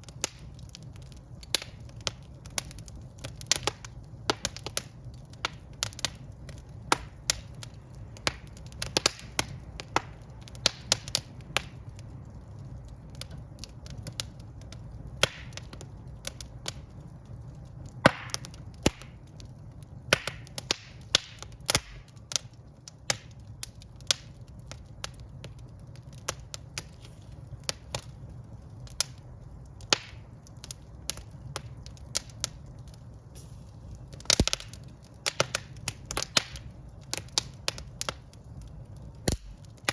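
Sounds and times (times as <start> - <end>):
flames rumbling: 0.0 - 39.9
wood fire crackling and popping: 0.0 - 39.9.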